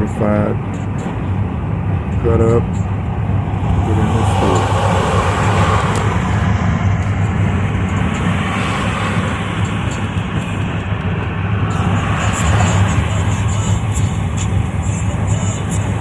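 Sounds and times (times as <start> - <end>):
truck engine and road drone: 0.0 - 16.0.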